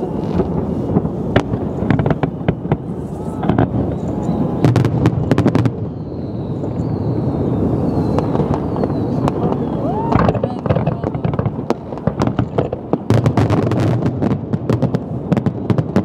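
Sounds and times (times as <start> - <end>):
firework shell bursts rumbling: 0.0 - 16.0
sharp crackling firework reports: 0.0 - 16.0.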